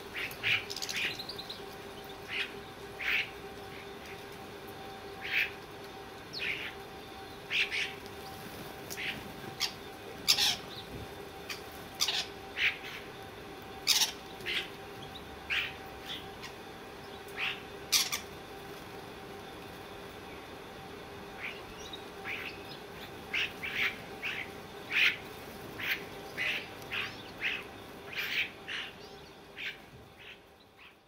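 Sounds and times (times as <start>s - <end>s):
birds squawking: 0.0s - 3.9s, 5.2s - 5.6s, 6.3s - 13.2s, 13.8s - 18.4s, 21.3s - 31.0s.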